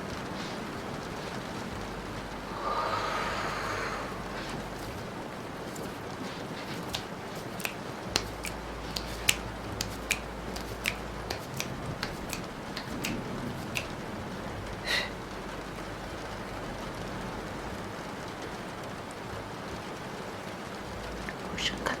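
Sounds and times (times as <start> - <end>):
raindrops ticking on a surface: 0.0 - 22.0
steady rain: 0.0 - 22.0.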